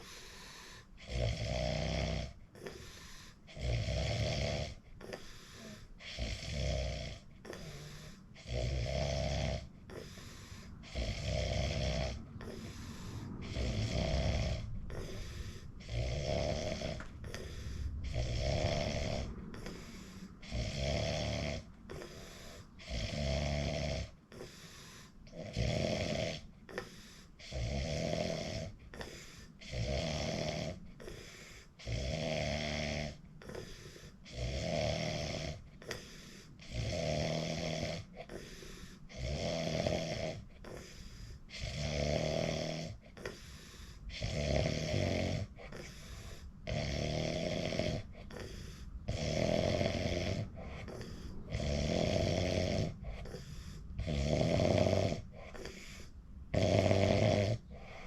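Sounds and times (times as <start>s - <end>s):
person snoring loudly: 0.0s - 58.0s
quiet breathing: 0.0s - 58.0s.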